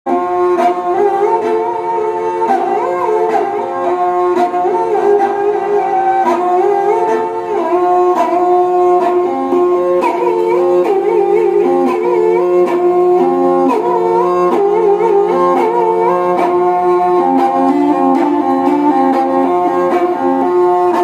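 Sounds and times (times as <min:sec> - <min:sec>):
bowed fiddle melody: 0:00.1 - 0:21.0.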